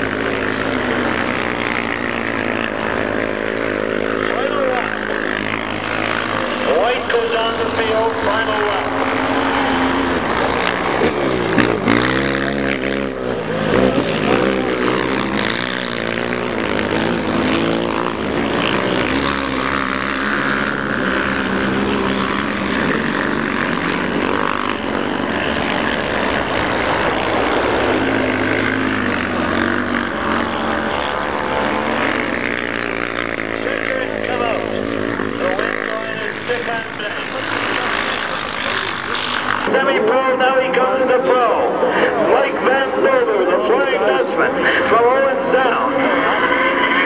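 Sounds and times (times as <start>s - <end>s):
racing quad engines revving: 0.0s - 47.0s.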